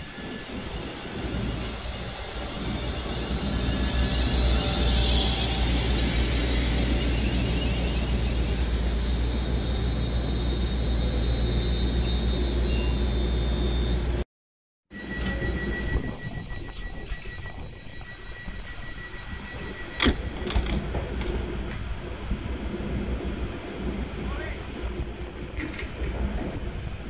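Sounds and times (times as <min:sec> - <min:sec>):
train motor and brake whine: 0:00.0 - 0:14.2, 0:14.9 - 0:27.0
train rumble: 0:00.0 - 0:14.2, 0:15.0 - 0:27.0
train standing hum: 0:00.0 - 0:14.2, 0:15.0 - 0:27.0.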